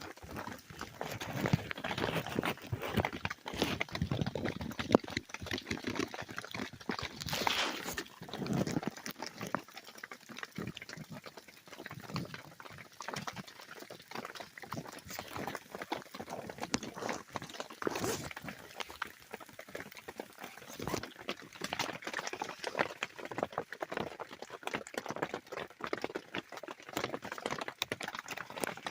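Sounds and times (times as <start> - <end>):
ice ticking and crackling: 0.0 - 28.9.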